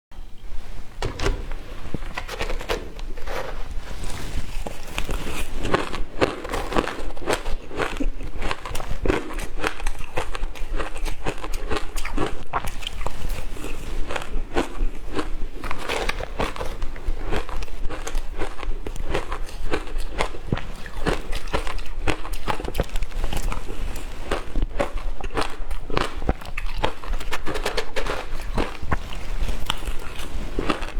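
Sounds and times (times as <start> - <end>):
crunching shaved ice: 2.3 - 30.9.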